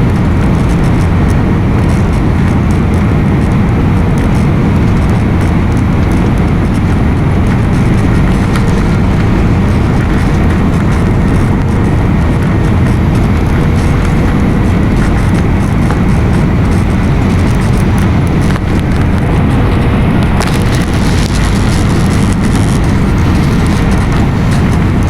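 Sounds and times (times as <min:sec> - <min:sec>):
cabin engine and airflow rumble: 0:00.0 - 0:25.0
faint steady hum: 0:00.0 - 0:25.0.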